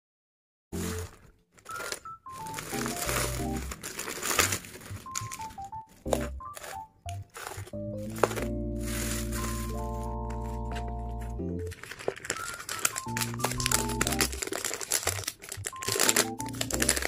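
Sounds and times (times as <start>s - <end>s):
bubble wrap crinkling: 0.8s - 17.0s
soft background music: 0.8s - 17.0s.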